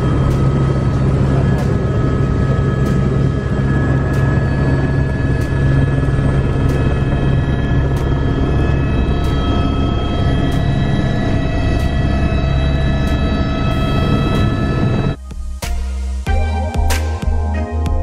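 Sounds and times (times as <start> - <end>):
helicopter rotor drone: 0.0 - 18.0
helicopter turbine whine: 0.0 - 18.0.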